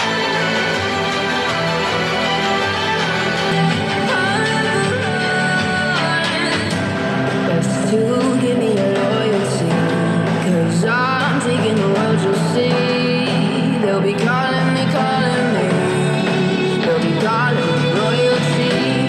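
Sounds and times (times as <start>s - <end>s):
song with sung vocal and guitar: 0.0s - 19.0s.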